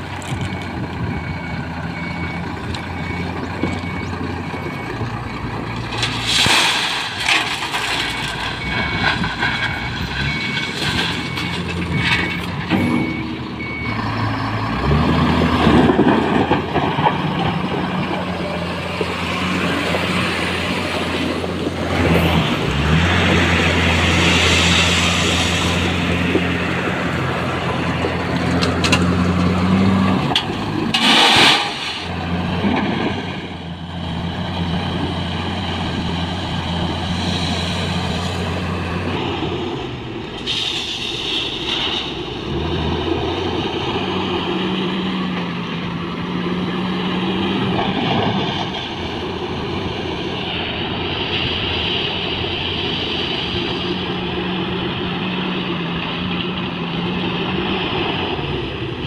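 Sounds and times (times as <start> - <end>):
heavy diesel engines working: 0.0 - 59.0.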